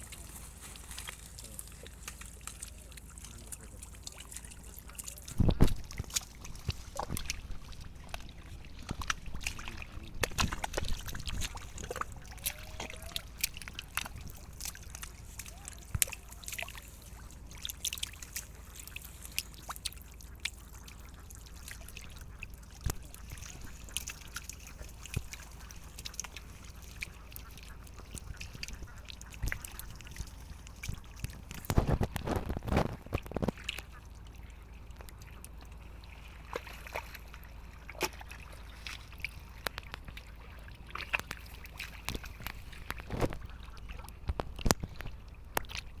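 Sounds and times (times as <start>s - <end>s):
splashing of shallow water: 0.0s - 46.0s.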